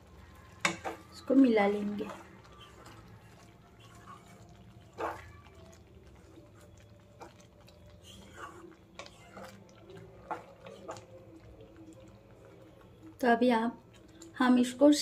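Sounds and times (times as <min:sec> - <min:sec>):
spatula stirring in a pan: 0:00.0 - 0:15.0.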